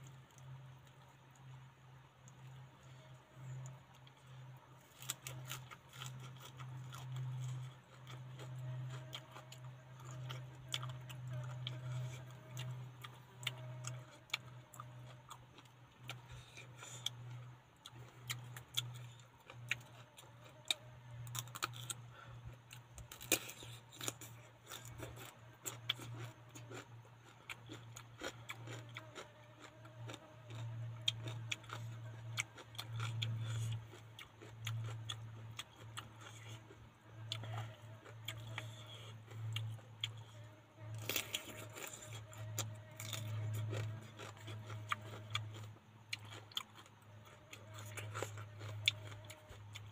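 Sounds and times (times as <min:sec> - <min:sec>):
chewing raw vegetables: 0:00.0 - 0:49.9
steady low hum: 0:00.0 - 0:49.9.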